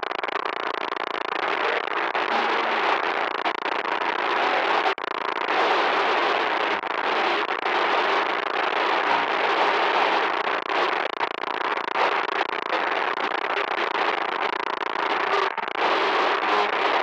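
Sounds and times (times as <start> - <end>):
harsh static noise: 0.0 - 17.0.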